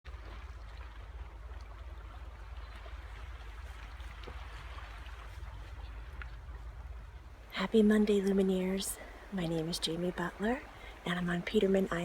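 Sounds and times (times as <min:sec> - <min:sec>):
water lapping along shoreline: 0:00.1 - 0:12.0.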